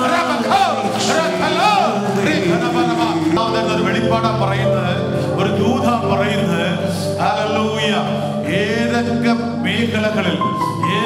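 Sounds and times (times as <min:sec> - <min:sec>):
instrumental backing music: 0:00.0 - 0:11.0
person singing worship song: 0:00.0 - 0:11.0.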